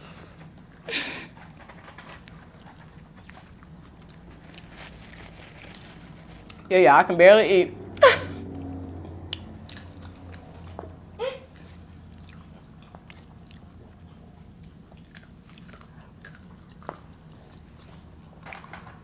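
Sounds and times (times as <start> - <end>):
chewing with small crunches: 0.1 - 6.8, 7.9 - 18.9
low hum: 1.6 - 18.8.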